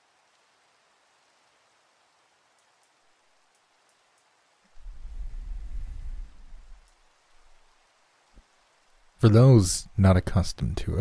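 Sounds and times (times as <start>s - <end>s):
rain: 0.0s - 11.0s.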